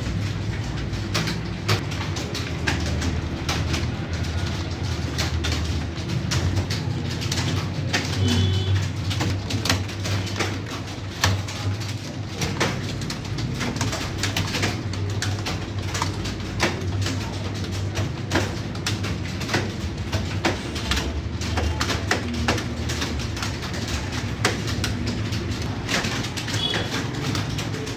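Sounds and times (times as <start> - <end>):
keyboard keys clicking: 0.0 - 27.9.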